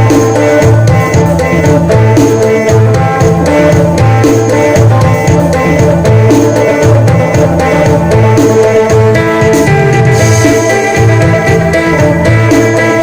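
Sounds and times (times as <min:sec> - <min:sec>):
bass: 0:00.0 - 0:13.0
drum beat: 0:00.0 - 0:13.0.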